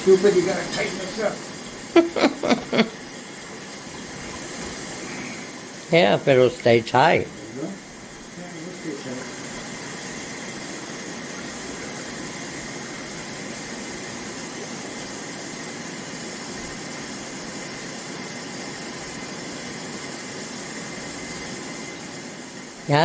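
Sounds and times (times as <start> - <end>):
water running from faucet into sink: 0.0 - 23.0.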